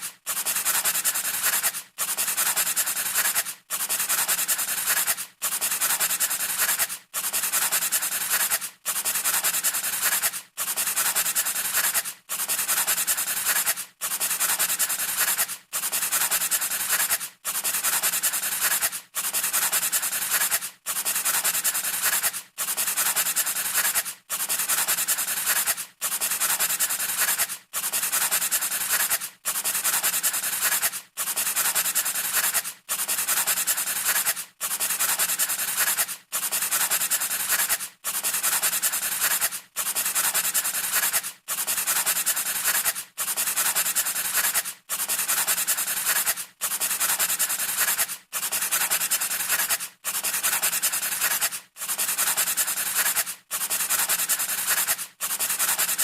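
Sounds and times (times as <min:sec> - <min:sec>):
scratchy rubbing strokes: 0:00.0 - 0:56.0.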